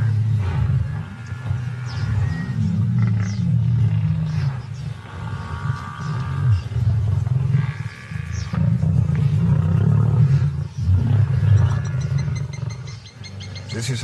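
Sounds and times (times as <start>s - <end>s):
lions growling: 0.0s - 14.0s.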